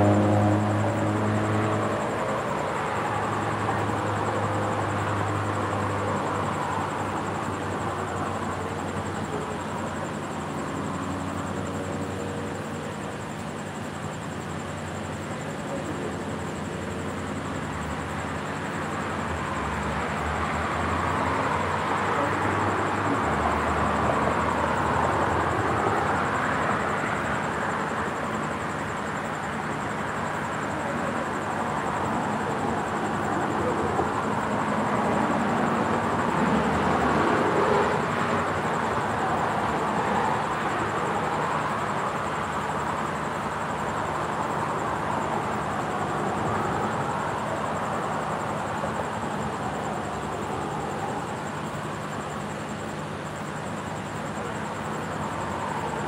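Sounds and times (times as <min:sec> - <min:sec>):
cars passing on street: 0:00.0 - 0:56.0.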